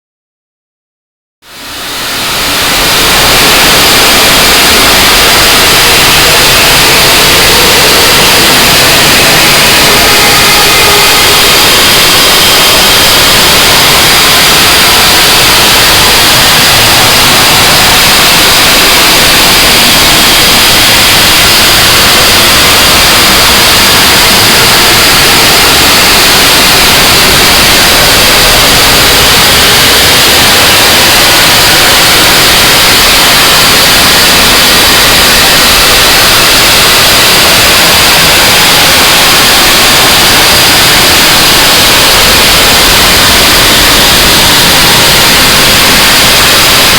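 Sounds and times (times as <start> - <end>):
harsh noise wall music: 1.4 - 46.9.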